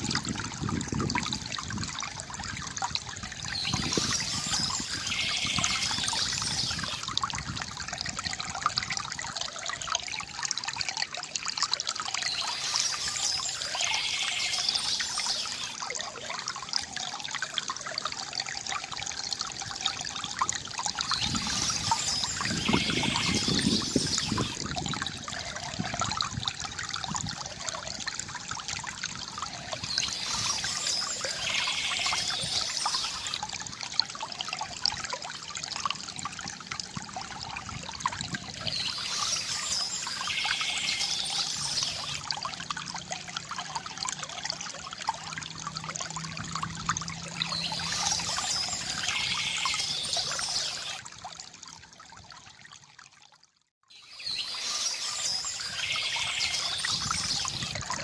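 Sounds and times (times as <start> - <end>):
water trickling from bamboo fountain: 0.0 - 58.0.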